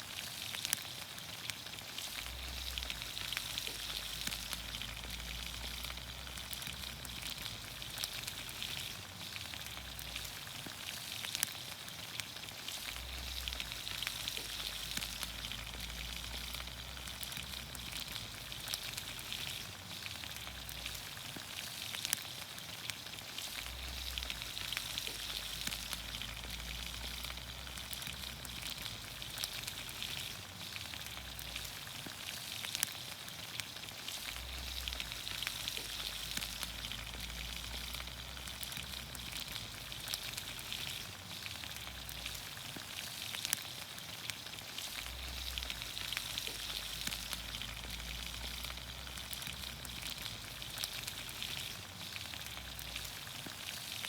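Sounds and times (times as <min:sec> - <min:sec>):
oil popping and crackling: 0:00.0 - 0:54.0
vegetables sizzling in a pan: 0:00.0 - 0:54.0.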